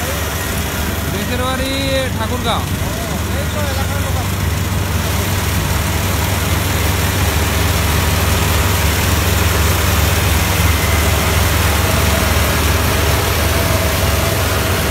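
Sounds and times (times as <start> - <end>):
combine harvester engine running: 0.0 - 14.9.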